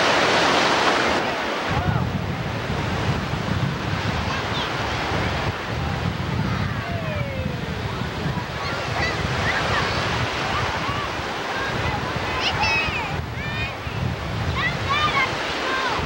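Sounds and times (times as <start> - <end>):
small waves washing in: 0.0 - 16.0
wind rumbling on microphone: 0.0 - 16.0.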